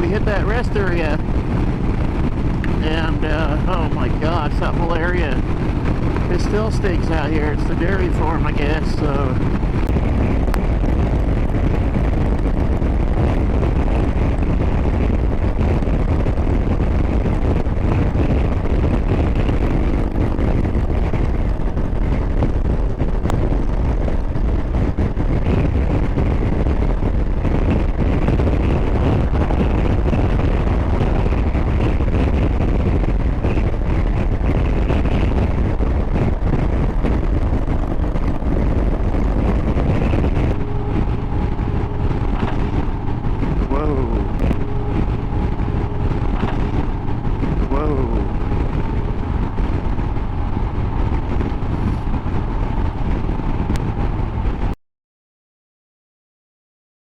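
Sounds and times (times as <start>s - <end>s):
motorcycle engine cruising: 0.0s - 54.8s
wind rush on microphone: 0.0s - 54.8s.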